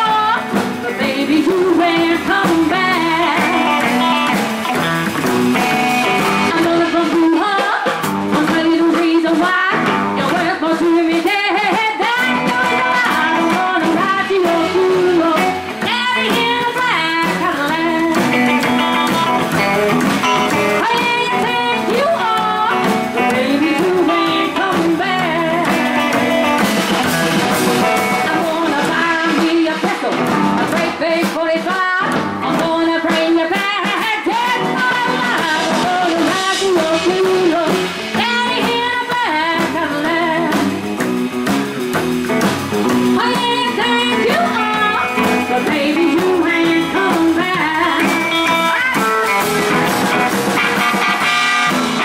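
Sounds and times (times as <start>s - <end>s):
woman singing: 0.0s - 4.5s, 6.1s - 19.7s, 20.5s - 26.7s, 27.8s - 40.9s, 43.0s - 49.8s
rockabilly band playing: 0.0s - 52.0s.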